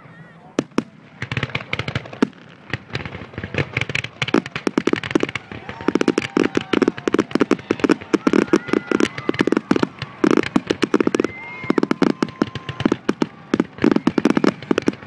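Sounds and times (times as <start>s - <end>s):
fireworks bangs and crackling: 0.4s - 15.0s
fireworks whistling: 0.4s - 15.0s.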